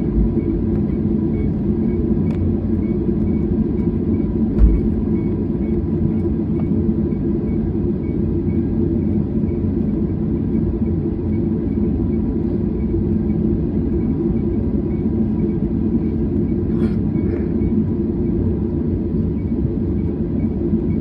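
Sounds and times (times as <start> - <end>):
jet airliner cabin rumble: 0.0 - 21.0.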